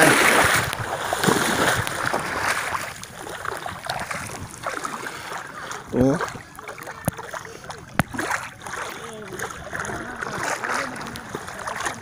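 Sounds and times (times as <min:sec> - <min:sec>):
person wading through shallow water: 0:00.0 - 0:12.0.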